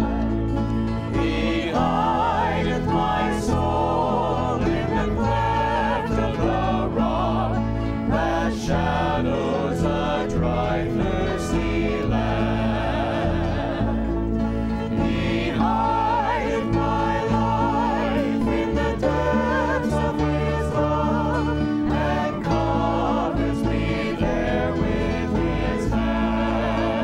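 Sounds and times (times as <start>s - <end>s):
group singing a hymn: 0.0s - 27.0s
mandolin: 0.0s - 27.0s
strummed acoustic guitar: 0.0s - 27.0s.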